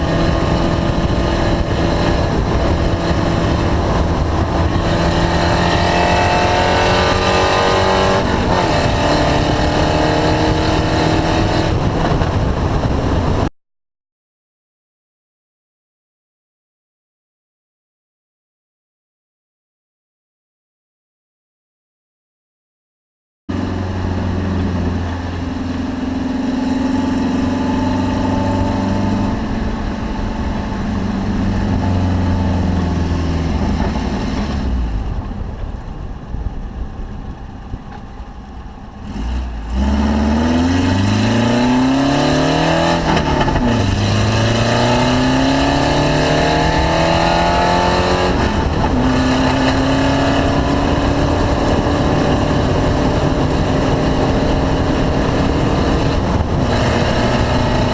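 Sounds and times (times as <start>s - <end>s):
car engine accelerating: 0.0s - 13.5s, 23.5s - 57.9s.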